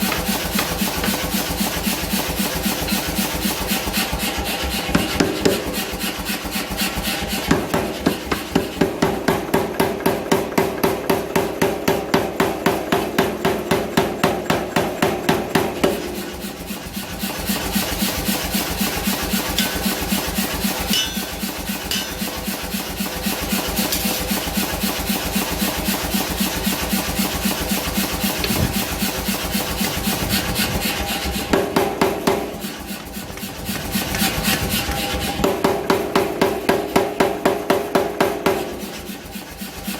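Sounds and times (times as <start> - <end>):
power hammer striking steel: 0.0 - 39.9
steady motor hum: 0.0 - 39.9.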